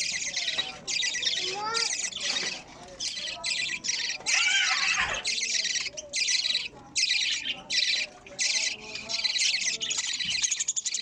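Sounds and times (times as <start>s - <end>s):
budgerigar chicks begging calls: 0.0s - 11.0s.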